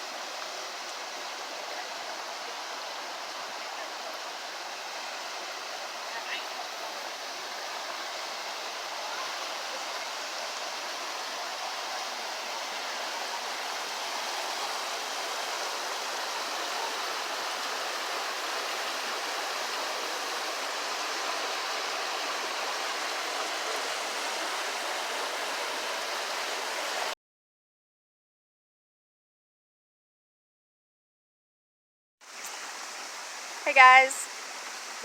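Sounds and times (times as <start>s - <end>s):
stream water running: 0.0s - 27.2s, 32.2s - 35.0s.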